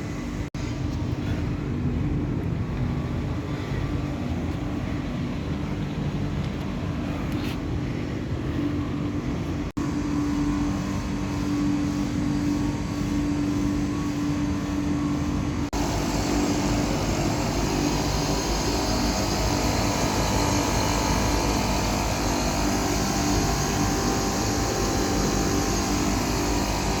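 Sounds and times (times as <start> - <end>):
air conditioner unit humming: 0.0 - 27.0.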